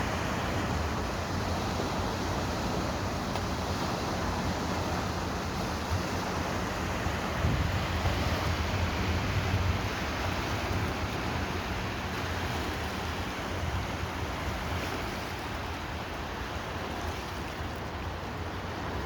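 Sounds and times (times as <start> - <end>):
boat wake waves washing: 0.0 - 19.0
wind rumble on microphone: 0.0 - 19.0.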